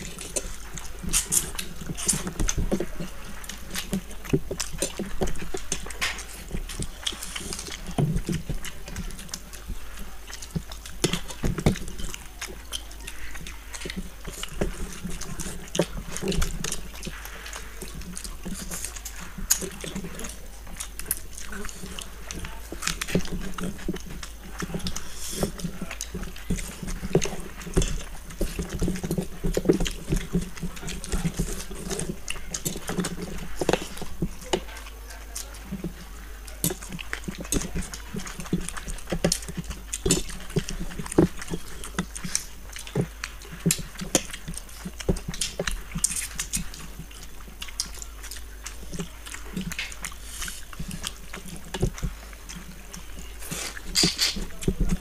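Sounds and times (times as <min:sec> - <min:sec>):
fingers squelching rice on plates: 0:00.0 - 0:55.0
wet chewing and lip-smacking: 0:00.0 - 0:55.0.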